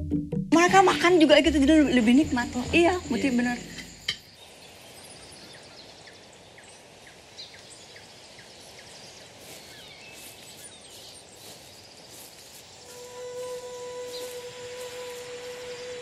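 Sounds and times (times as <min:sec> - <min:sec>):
birds chirping: 0:00.6 - 0:16.0
background hiss: 0:00.7 - 0:16.0.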